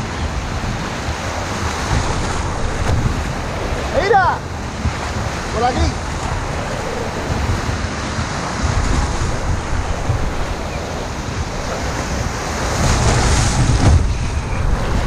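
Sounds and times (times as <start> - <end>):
surf breaking in shallows: 0.0 - 15.0
wind buffeting microphone: 0.0 - 15.0.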